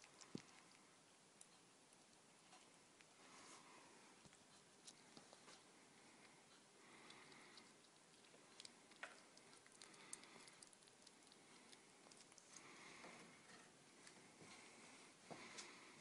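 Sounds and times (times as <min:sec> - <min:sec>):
squirrel gnawing: 0:00.0 - 0:16.0.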